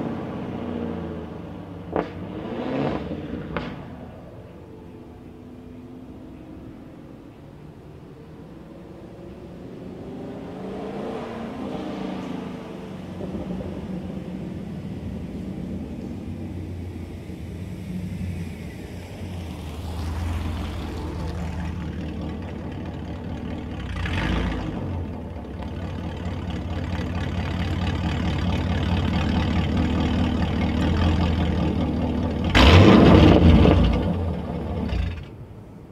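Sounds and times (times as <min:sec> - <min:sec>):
car engine revving: 0:00.0 - 0:04.6, 0:09.3 - 0:35.4.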